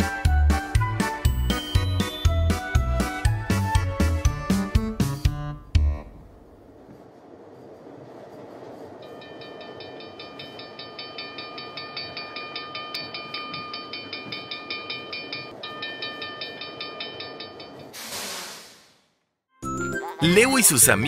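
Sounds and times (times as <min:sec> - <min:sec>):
steam train rumble: 0:00.0 - 0:19.2.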